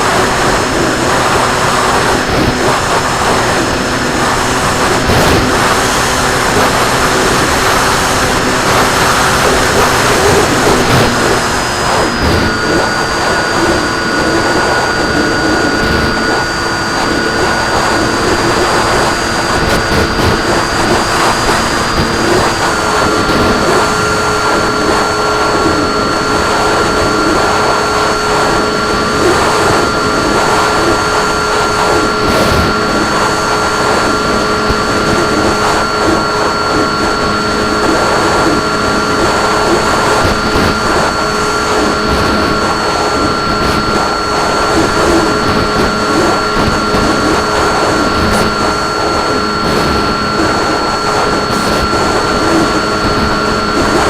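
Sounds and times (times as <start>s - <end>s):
model plane motor whine: 0.0s - 54.0s
rushing wind noise: 0.0s - 54.0s.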